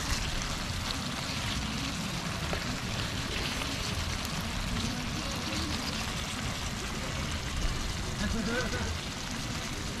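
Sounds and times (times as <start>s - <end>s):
gas stove hiss: 0.0s - 10.0s
stew simmering and bubbling: 0.0s - 10.0s.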